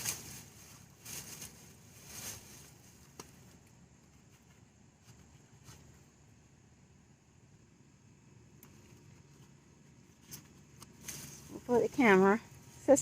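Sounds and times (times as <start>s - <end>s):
soil and vines rustling: 0.0s - 6.4s, 8.5s - 13.0s.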